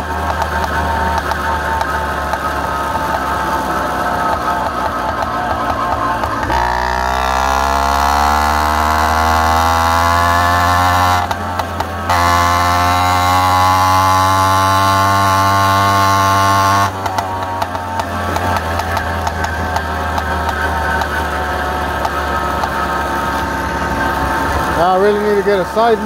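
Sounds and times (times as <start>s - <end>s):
two-stroke bicycle engine revving: 0.0s - 26.0s.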